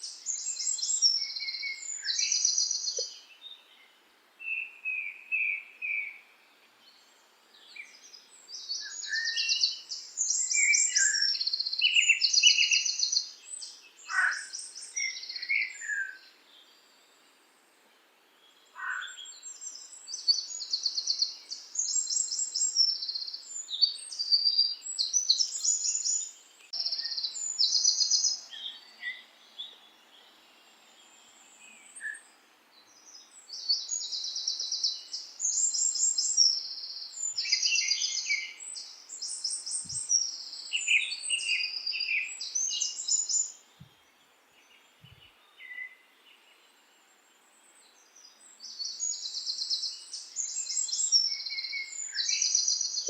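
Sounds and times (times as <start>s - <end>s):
songbirds trilling and chirping: 0.0s - 53.0s.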